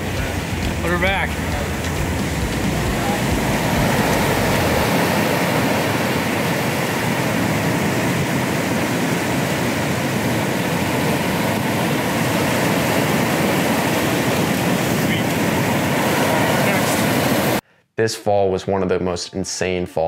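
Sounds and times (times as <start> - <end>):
ocean surf on rocks: 0.0 - 17.6.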